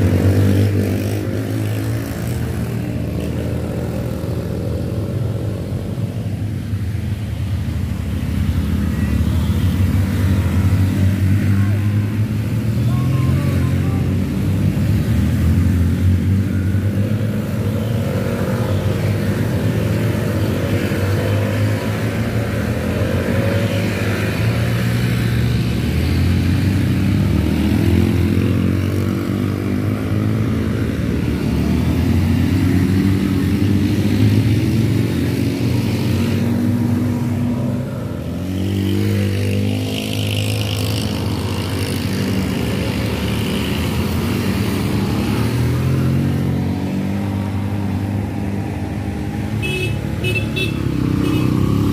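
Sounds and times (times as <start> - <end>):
motorcycle engine under hard throttle: 0.0 - 51.9.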